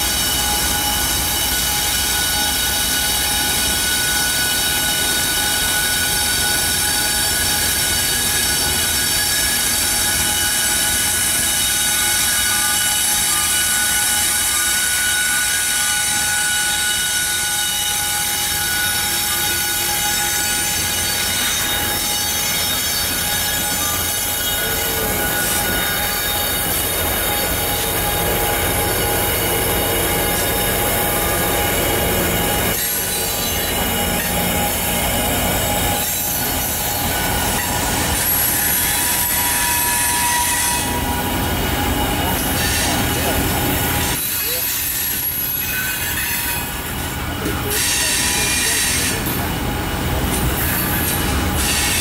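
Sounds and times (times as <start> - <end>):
coal hoppers rolling on rails: 0.0 - 52.0
diesel locomotives passing: 0.0 - 52.0
high-pitched squeal: 0.0 - 52.0.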